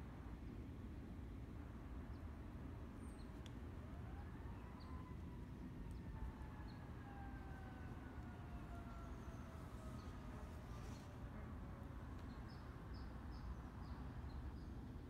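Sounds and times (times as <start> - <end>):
faint low outdoor rumble: 0.0 - 15.0.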